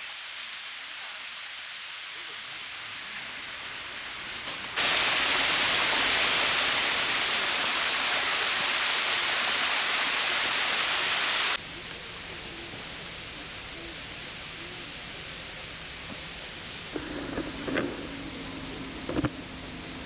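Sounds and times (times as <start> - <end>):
rushing rain hiss: 0.0 - 20.0.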